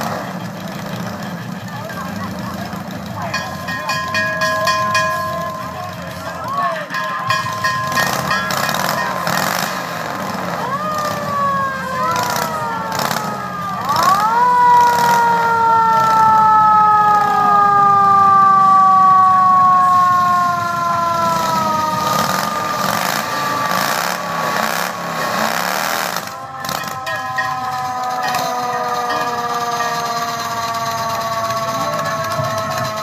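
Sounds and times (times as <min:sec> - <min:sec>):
siren wailing: 0:01.6 - 0:33.0.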